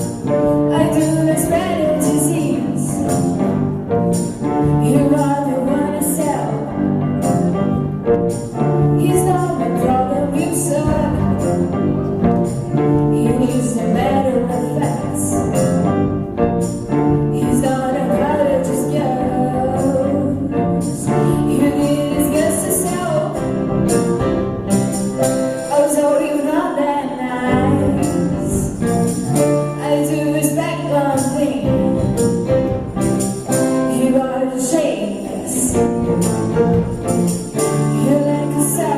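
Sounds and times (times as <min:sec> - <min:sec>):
acoustic band playing: 0:00.0 - 0:38.9.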